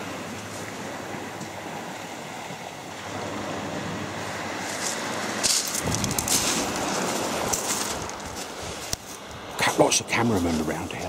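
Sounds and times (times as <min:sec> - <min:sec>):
waves washing on shingle beach: 0:00.0 - 0:11.0
wind buffeting microphone: 0:00.0 - 0:11.0.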